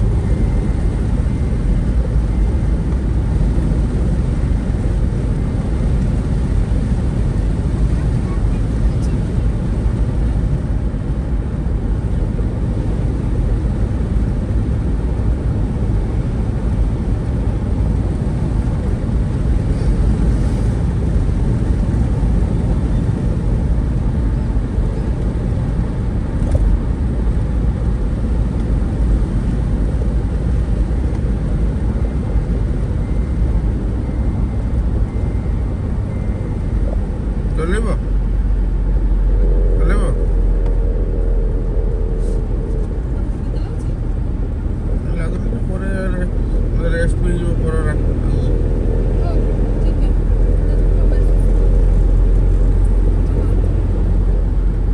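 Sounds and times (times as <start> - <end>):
vehicle road and wind noise: 0.0 - 54.9.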